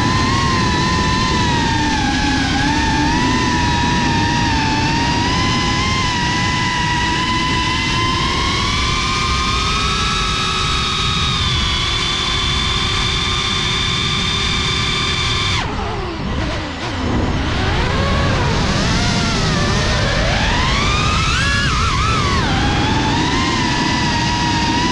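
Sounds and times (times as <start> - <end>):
drone motors whining: 0.0 - 24.9.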